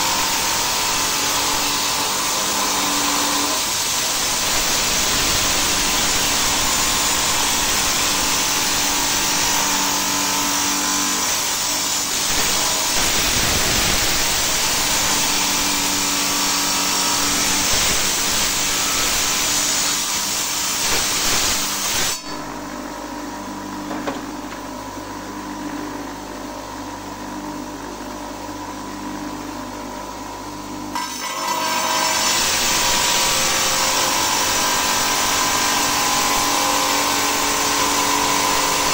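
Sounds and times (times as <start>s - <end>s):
stone-cutting saw grinding whine: 0.0s - 23.2s, 30.9s - 38.9s.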